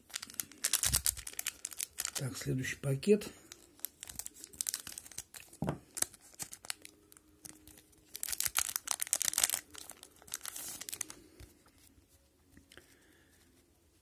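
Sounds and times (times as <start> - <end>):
plastic wrapper crinkling: 0.0 - 11.9.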